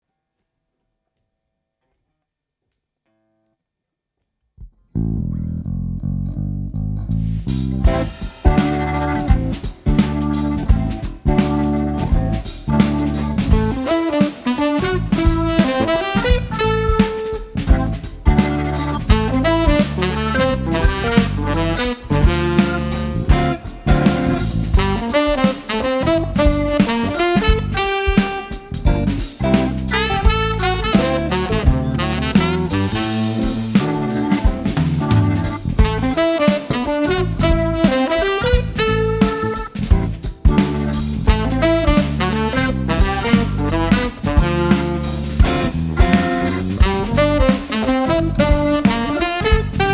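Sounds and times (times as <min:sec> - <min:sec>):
guitar and bass riff: 0:04.9 - 0:49.9
drums and cymbals: 0:07.3 - 0:49.9
keyboard: 0:07.4 - 0:49.9
tenor saxophone line: 0:07.9 - 0:49.9.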